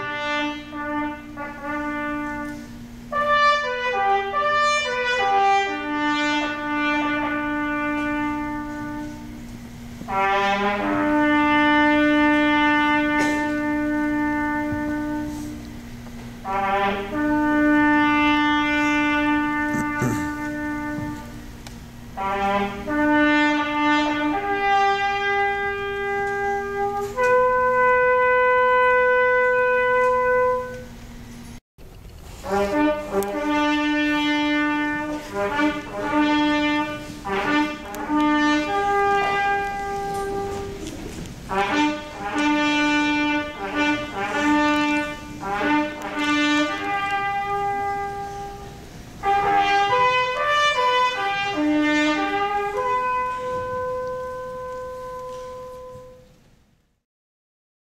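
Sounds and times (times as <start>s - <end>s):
bugle call: 0.0s - 15.8s, 16.4s - 31.0s, 32.4s - 56.3s.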